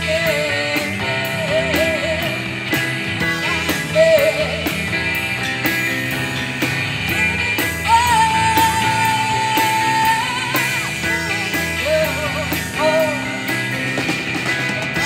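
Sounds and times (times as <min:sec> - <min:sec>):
drums steady beat: 0:00.0 - 0:15.0
electric guitar bending notes: 0:00.0 - 0:15.0
live rock band playing: 0:00.0 - 0:15.0.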